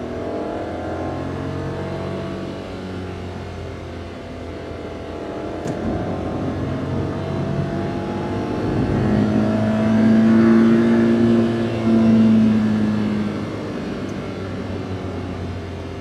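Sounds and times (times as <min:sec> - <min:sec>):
van engine accelerating: 0:00.0 - 0:16.0.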